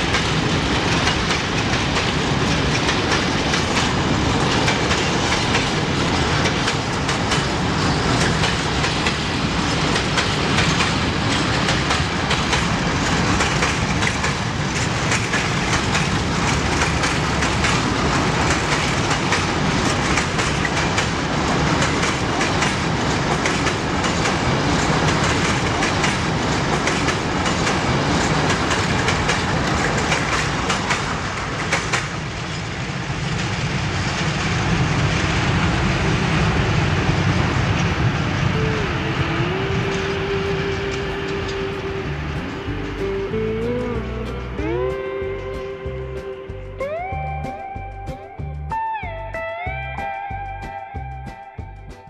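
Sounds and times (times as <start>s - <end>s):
train wheels clicking on rail joints: 0.0s - 46.5s.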